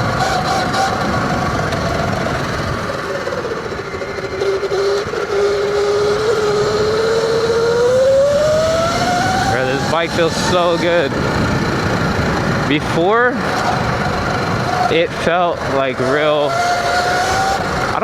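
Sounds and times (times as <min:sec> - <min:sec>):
electric dirt bike whining: 0:00.0 - 0:18.0
steady rushing noise: 0:00.0 - 0:18.0.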